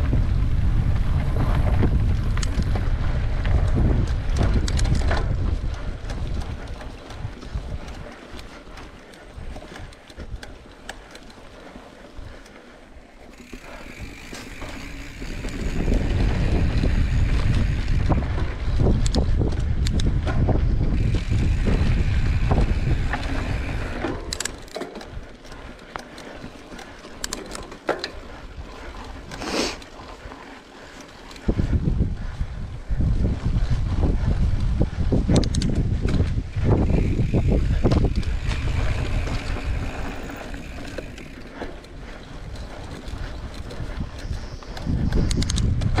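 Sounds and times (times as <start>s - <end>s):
bike tyres rolling on dirt: 0.0s - 46.0s
wind buffeting microphone: 0.0s - 46.0s
bike frame rattling and knocking: 1.2s - 11.4s, 13.2s - 28.9s, 33.1s - 46.0s.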